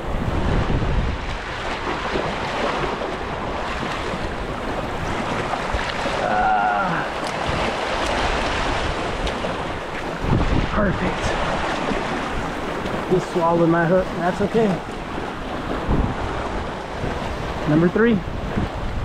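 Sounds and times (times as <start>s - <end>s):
surf splashing over rocks: 0.0s - 19.0s
wind noise on microphone: 0.0s - 19.0s.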